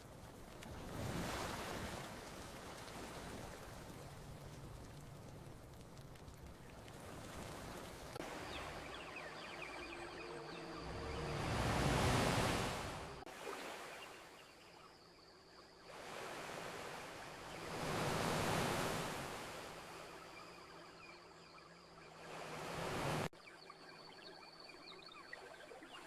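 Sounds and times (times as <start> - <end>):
ocean waves on beach: 0.0 - 23.3.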